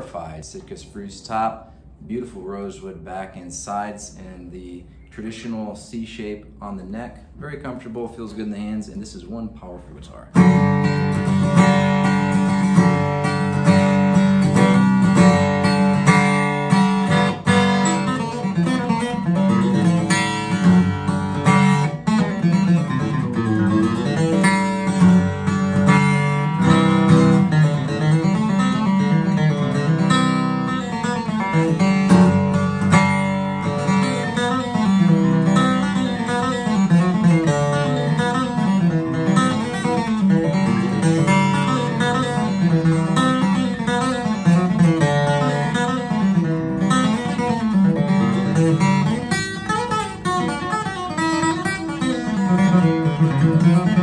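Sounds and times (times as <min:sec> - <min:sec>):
acoustic guitar strummed and picked: 0:07.8 - 0:54.0.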